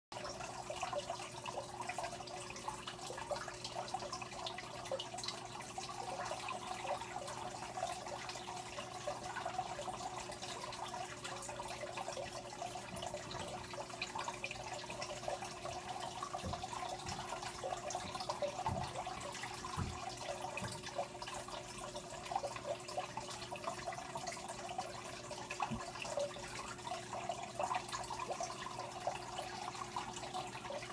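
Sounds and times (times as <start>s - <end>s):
aquarium water trickling: 0.1s - 30.9s.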